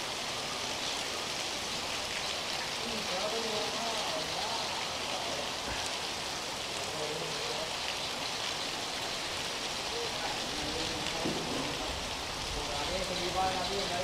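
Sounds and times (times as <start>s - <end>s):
rain falling on a street: 0.0s - 14.0s.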